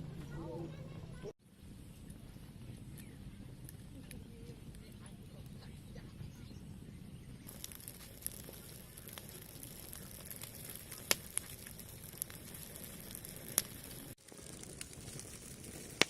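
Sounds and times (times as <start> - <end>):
fire crackling: 1.4 - 16.0
fire pops: 1.9 - 6.5, 7.4 - 16.0.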